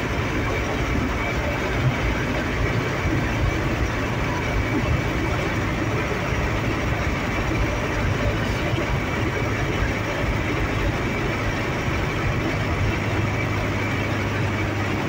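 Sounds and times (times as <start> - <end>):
low engine hum: 0.0 - 15.0
tyre and road noise: 0.0 - 15.0.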